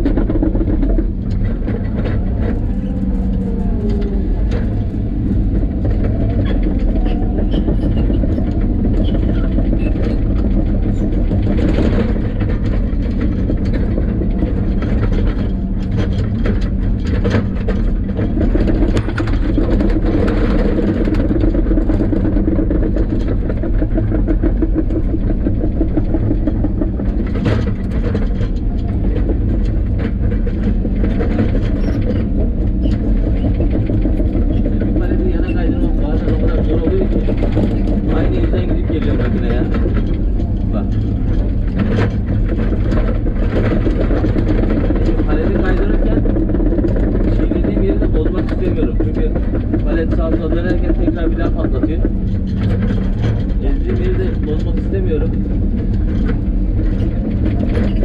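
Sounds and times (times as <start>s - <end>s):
earthmoving machine engine running: 0.0s - 58.0s
metallic clanks and rattles: 0.0s - 58.0s.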